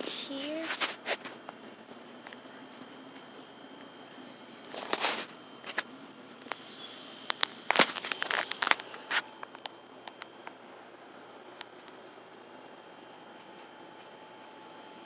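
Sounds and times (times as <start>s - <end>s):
rustling handling noise: 0.0s - 3.4s, 4.7s - 6.6s, 7.7s - 15.0s.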